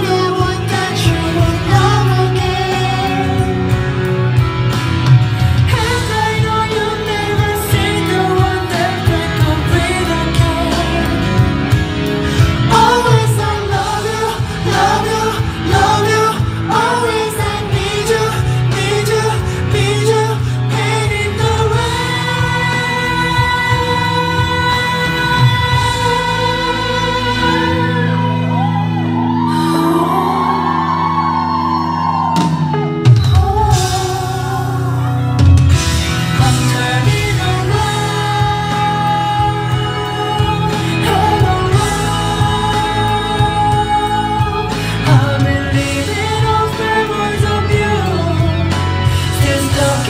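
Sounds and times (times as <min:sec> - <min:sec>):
group singing into microphones: 0:00.0 - 0:31.6, 0:33.3 - 0:50.0
pop backing track with heavy bass: 0:00.0 - 0:50.0.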